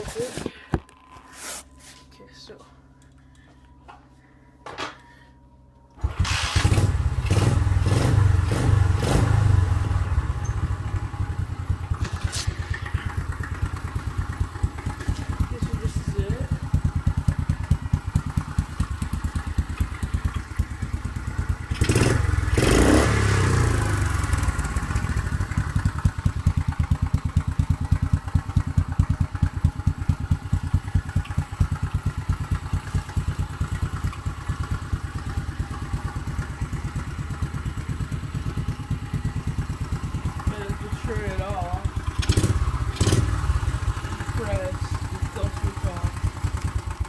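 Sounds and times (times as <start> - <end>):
dirt bike engine idling: 1.8 - 47.0.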